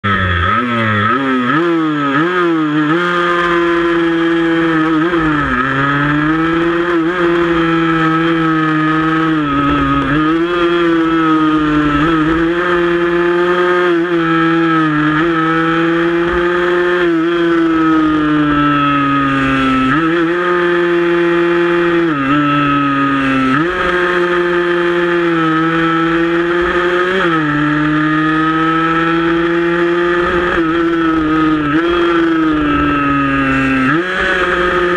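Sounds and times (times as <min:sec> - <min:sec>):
racing motorcycle engine: 0:00.0 - 0:34.9.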